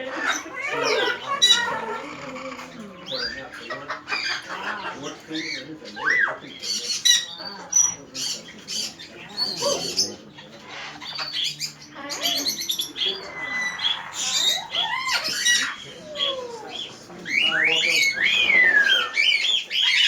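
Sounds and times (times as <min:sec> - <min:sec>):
parrots squawking: 0:00.0 - 0:20.0.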